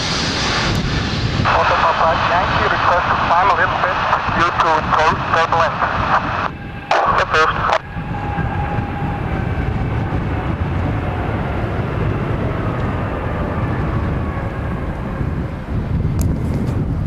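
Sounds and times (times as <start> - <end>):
jet engines rushing with whine: 0.0 - 17.0.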